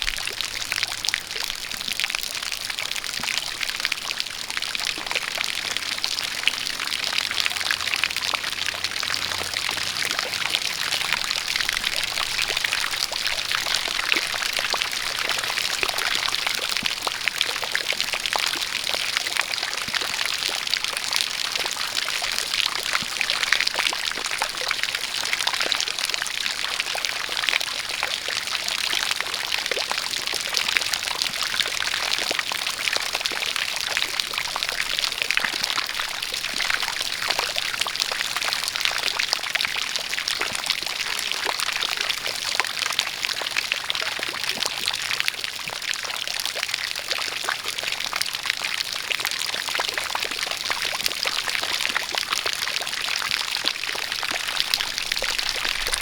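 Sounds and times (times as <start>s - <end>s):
rain pattering: 0.0s - 56.0s
water pouring and splashing: 0.0s - 56.0s.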